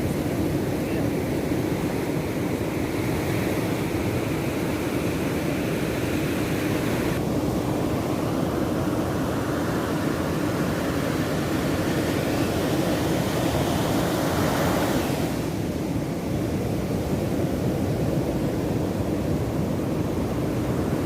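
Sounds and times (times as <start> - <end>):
ocean surf roaring: 0.0 - 21.0.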